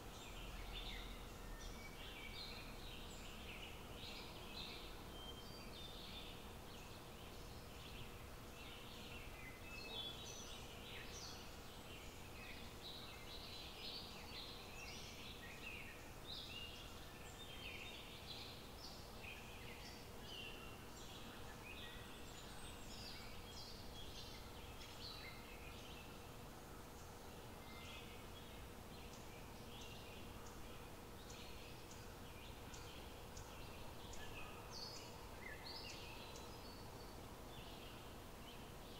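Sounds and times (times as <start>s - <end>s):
faint steady hiss: 0.0s - 38.9s.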